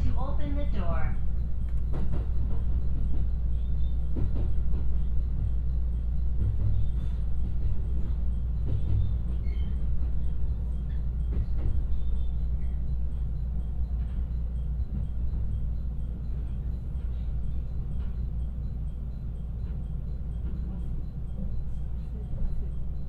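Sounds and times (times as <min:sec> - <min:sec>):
train running gear rumble: 0:00.0 - 0:23.0.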